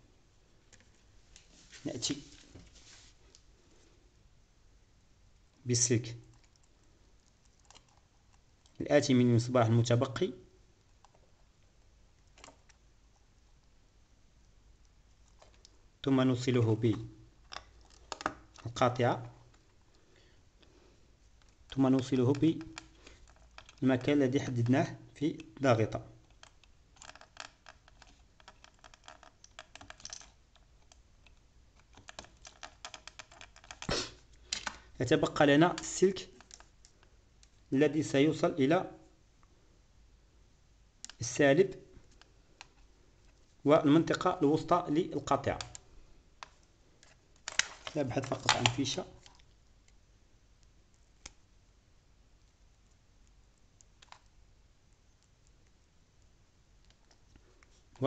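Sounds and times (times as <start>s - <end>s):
wires clicking and scratching: 5.4s - 10.2s, 10.8s - 13.8s, 14.4s - 20.0s, 20.6s - 37.8s, 41.0s - 51.5s, 52.3s - 58.0s.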